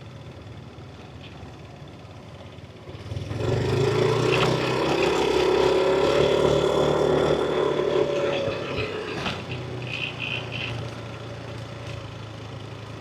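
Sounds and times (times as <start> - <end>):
scooter engine accelerating: 0.0 - 13.0.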